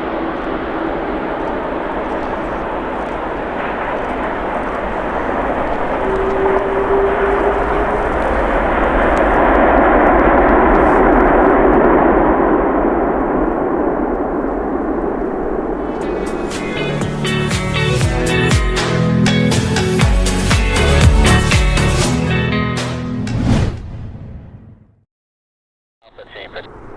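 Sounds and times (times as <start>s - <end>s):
jet engine rumble: 0.0s - 22.2s, 26.0s - 26.9s
jet engine whine: 0.0s - 22.3s, 26.2s - 26.9s.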